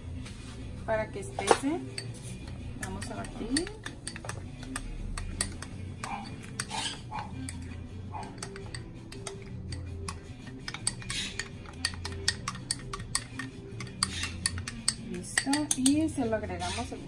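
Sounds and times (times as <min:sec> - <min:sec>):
metal spoon clinking against glass: 0:01.4 - 0:16.9.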